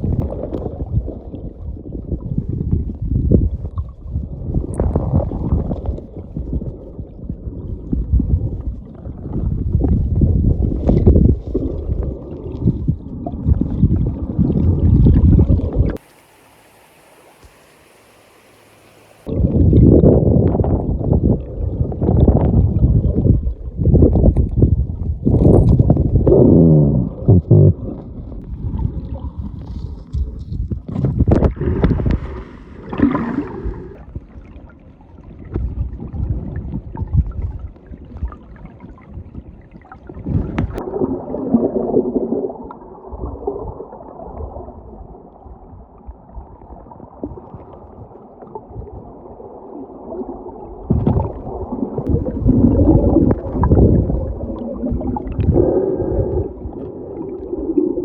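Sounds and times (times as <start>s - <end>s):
muffled river water sloshing: 0.0s - 26.3s, 27.8s - 58.0s.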